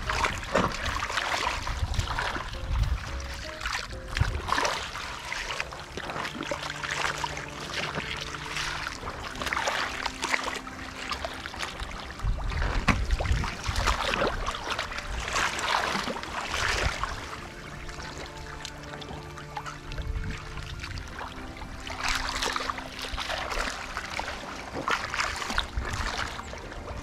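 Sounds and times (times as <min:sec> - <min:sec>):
muddy water splashing: 0:00.0 - 0:27.0.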